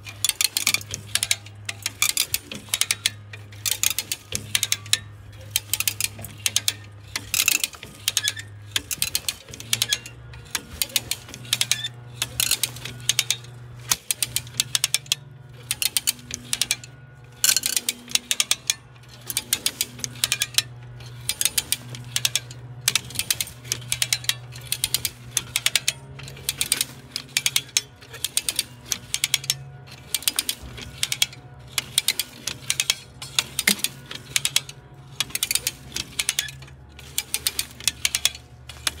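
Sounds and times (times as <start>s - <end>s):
ratchet pawl clicking: 0.0s - 39.0s
steady low hum: 0.0s - 39.0s.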